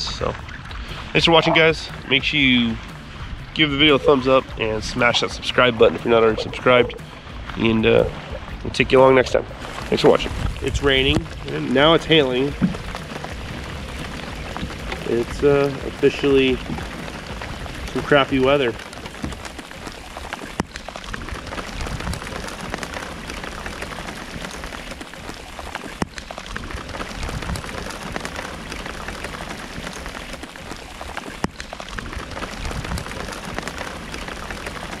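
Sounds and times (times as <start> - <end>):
hail tapping: 0.0 - 35.0
rain hissing on water: 0.0 - 35.0.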